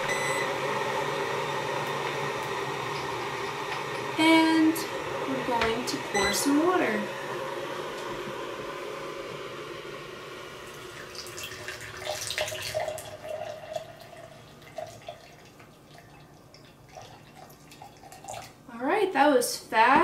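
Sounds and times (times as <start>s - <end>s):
hot water pouring into cup: 0.1s - 18.6s.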